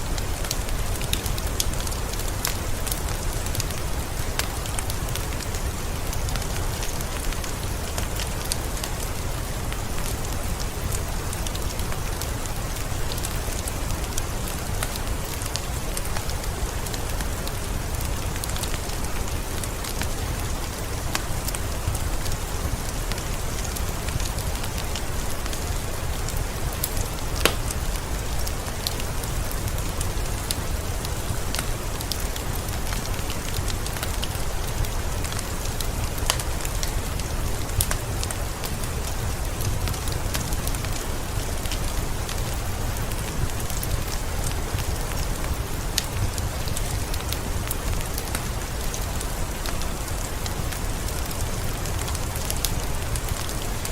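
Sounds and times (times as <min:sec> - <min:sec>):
steady rain falling: 0:00.0 - 0:53.9
wood fire crackling: 0:00.0 - 0:53.9.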